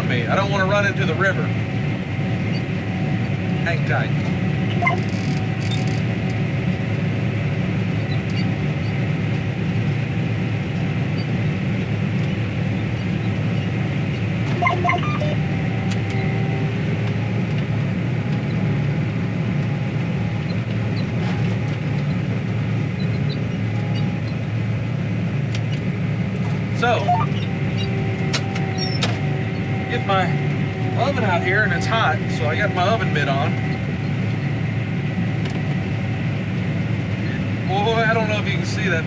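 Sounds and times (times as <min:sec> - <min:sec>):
tractor engine drone: 0:00.0 - 0:39.0.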